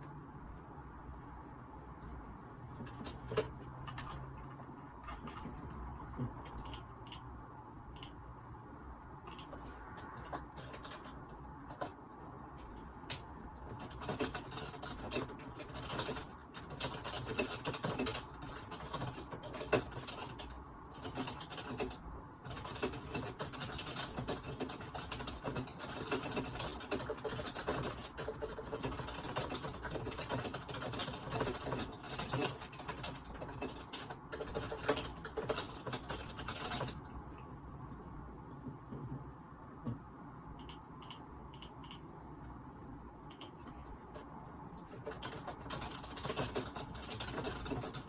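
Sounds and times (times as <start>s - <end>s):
computer keyboard typing: 1.8s - 7.3s, 7.9s - 8.3s, 9.2s - 37.4s, 40.6s - 42.2s, 43.3s - 48.0s.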